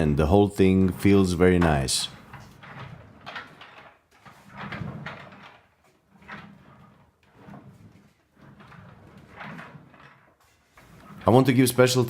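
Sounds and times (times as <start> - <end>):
gear sliding and scraping: 0.0 - 12.0.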